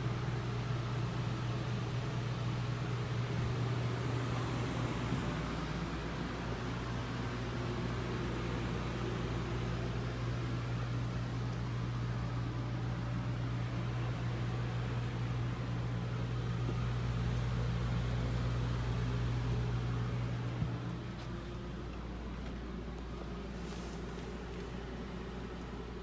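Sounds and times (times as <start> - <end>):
electric fan machine humming: 0.0 - 26.0.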